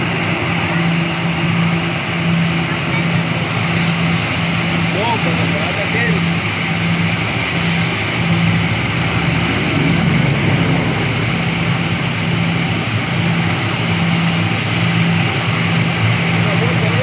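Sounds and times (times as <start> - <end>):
aircraft engines rushing: 0.0 - 17.0.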